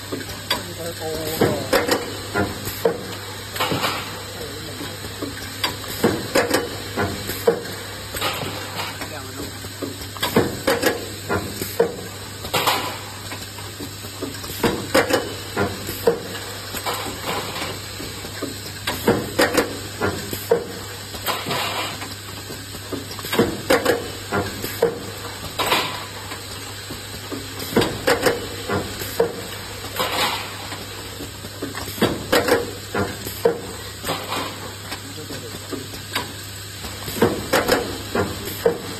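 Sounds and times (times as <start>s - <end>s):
welding machine metallic clanks: 0.1s - 38.9s.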